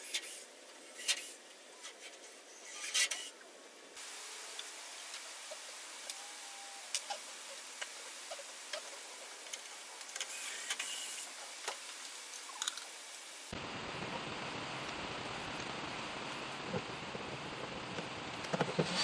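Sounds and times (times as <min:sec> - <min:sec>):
faint hiss: 0:00.0 - 0:19.0
steady rushing hiss: 0:00.0 - 0:19.0.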